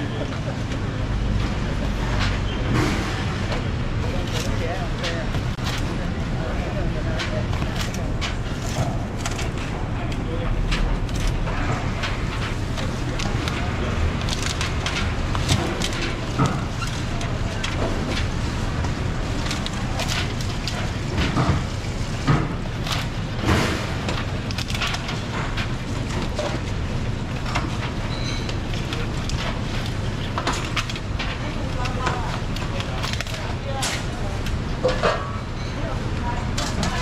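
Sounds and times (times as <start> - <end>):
low background hum: 0.0 - 37.0
plastic boxes clicking and knocking: 2.0 - 35.2.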